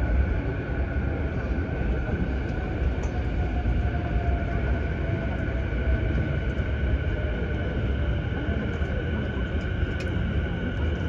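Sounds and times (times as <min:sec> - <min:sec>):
low rumble and hum: 0:00.0 - 0:11.0.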